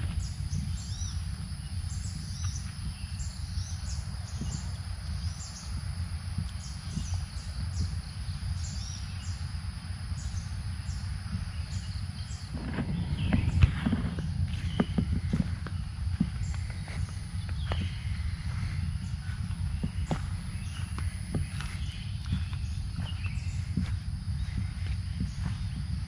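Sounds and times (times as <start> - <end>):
birds chirping: 0.0 - 26.0
high insect drone: 0.0 - 26.0
wind rumble on microphone: 0.0 - 26.0.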